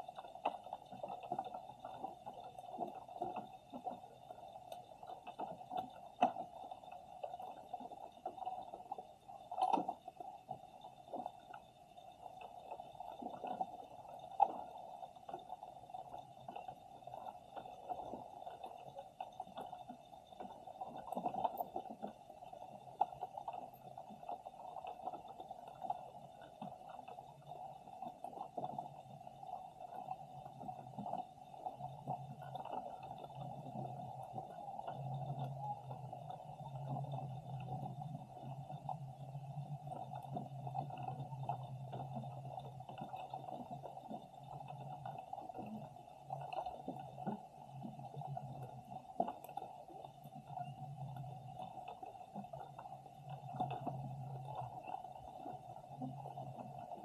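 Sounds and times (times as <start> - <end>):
faint underwater clicks and knocks: 0.0 - 57.0
underwater low rumble: 0.0 - 57.0.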